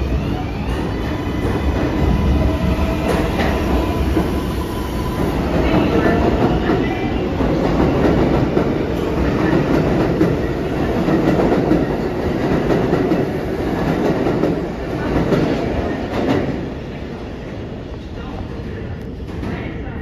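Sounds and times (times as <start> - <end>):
subway train wheels on rails: 0.0 - 20.0.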